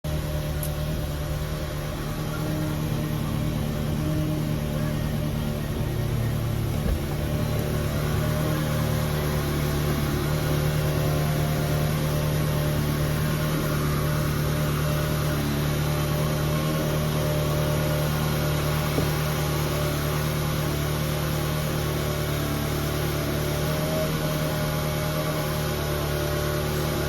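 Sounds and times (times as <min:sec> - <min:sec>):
car engine idling: 0:00.1 - 0:27.0.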